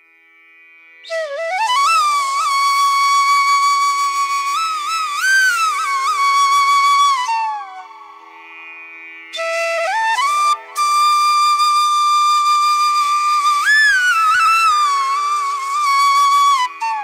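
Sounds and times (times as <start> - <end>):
flute melody: 1.1 - 8.2, 9.4 - 17.0.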